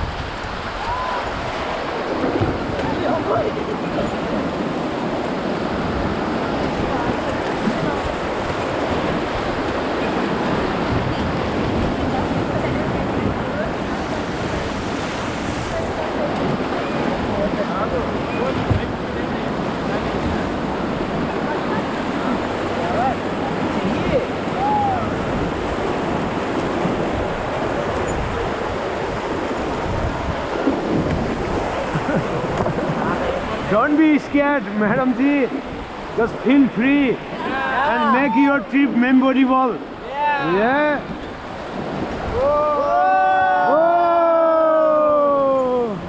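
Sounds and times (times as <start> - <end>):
wind buffeting microphone: 0.0 - 38.0, 39.8 - 46.0
river rapids rushing: 0.0 - 46.0.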